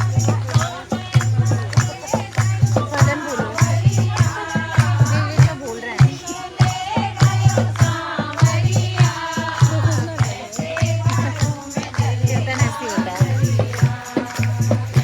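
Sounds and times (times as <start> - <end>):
tambourine-like percussion: 0.0 - 15.0.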